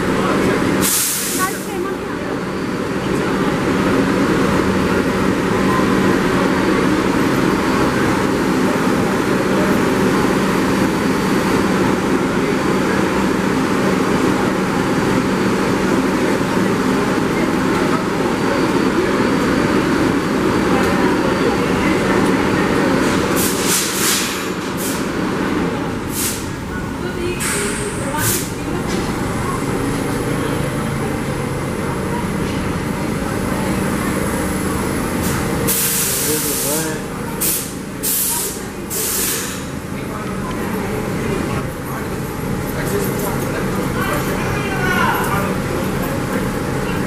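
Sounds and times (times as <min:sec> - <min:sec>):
subway train equipment drone: 0:00.0 - 0:47.0.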